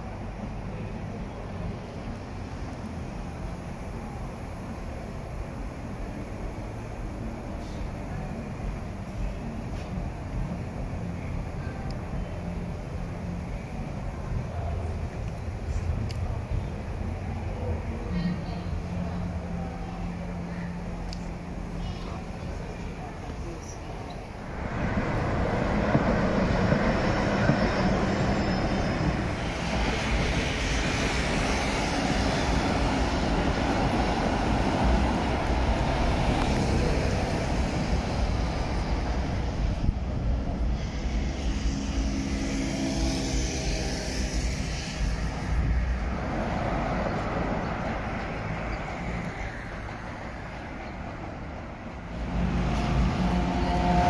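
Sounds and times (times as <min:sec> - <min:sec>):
cars passing: 0:00.0 - 0:54.0
trams humming past: 0:00.0 - 0:54.0.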